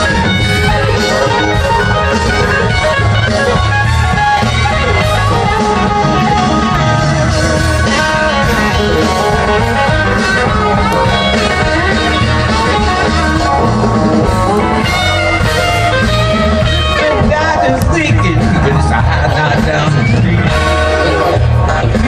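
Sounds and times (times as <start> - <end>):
electric guitar: 0.0 - 22.0
live band playing: 0.0 - 22.0.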